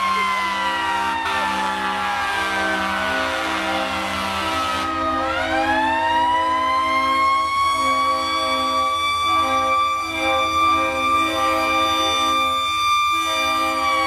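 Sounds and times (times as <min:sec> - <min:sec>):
low horn tones: 0:00.0 - 0:06.1, 0:06.7 - 0:14.0
fire engine siren wailing: 0:00.0 - 0:14.0.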